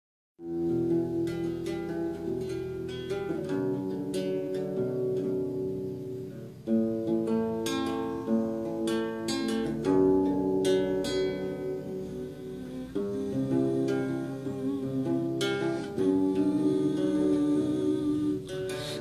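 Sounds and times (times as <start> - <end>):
acoustic guitar playing: 0.4 - 19.0.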